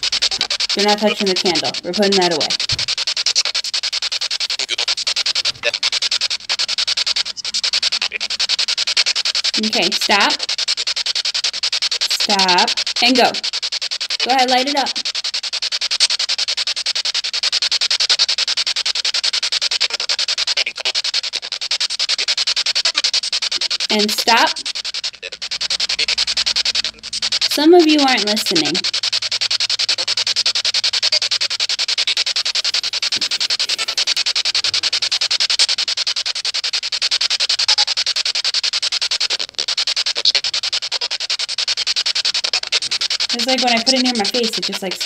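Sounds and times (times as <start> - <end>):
pulsing radio static: 0.0 - 45.0.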